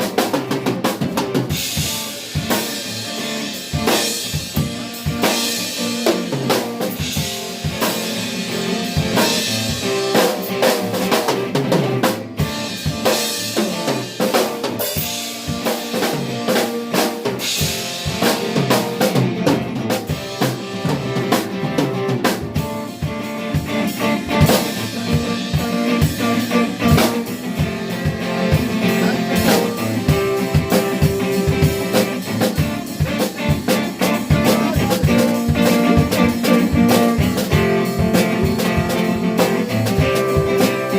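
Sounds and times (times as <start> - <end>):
band instruments holding notes: 0.0 - 40.9
drum kit playing: 0.0 - 40.9.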